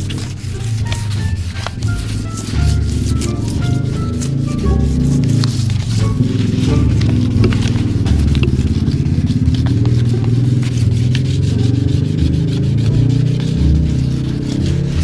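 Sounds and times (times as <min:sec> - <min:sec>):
background music: 0:00.0 - 0:15.0
sandpaper rubbing on plastic: 0:00.0 - 0:15.0.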